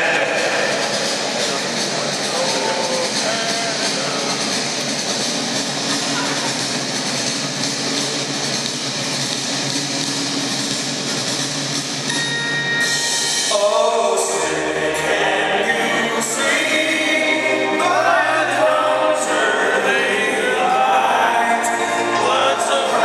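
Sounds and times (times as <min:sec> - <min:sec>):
music with singing: 0:00.0 - 0:23.0
steady background noise: 0:00.0 - 0:23.0.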